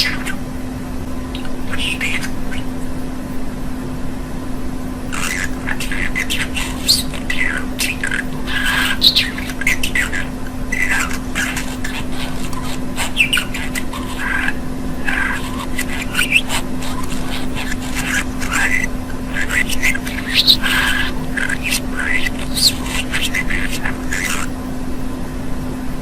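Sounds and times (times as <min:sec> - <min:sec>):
budgerigar chattering: 0:00.0 - 0:00.5, 0:01.3 - 0:03.0, 0:05.1 - 0:24.6
steady low hum: 0:00.0 - 0:26.0.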